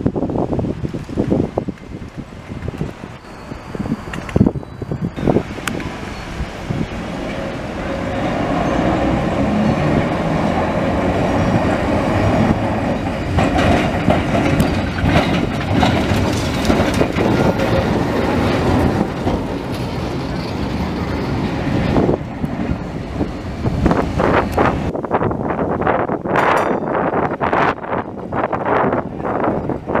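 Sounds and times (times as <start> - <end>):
tram wheels clattering on rails: 0.4 - 30.0.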